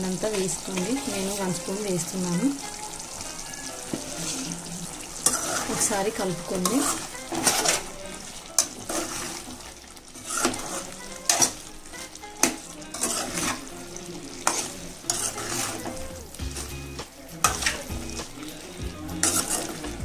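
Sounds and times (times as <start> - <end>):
masala sizzling: 0.0 - 20.0
spoon scraping metal pan: 0.2 - 20.0.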